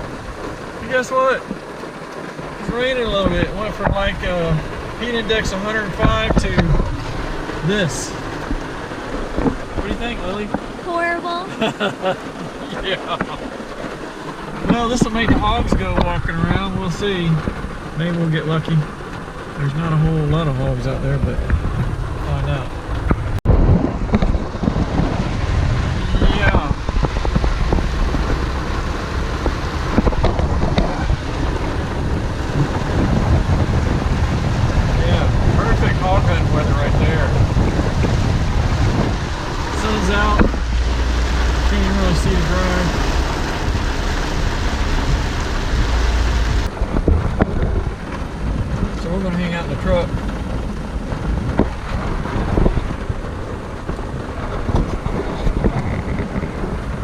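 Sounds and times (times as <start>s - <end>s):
wind buffeting microphone: 0.0s - 11.4s, 12.4s - 57.0s
rain on a truck: 0.0s - 57.0s
raindrop taps: 0.0s - 57.0s.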